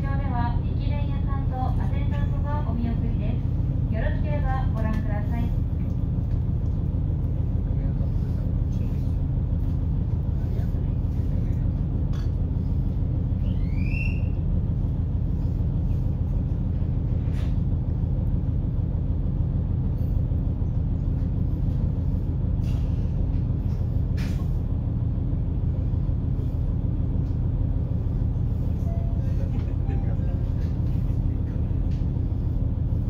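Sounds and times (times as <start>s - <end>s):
diesel railcar idling rumble: 0.0s - 33.0s.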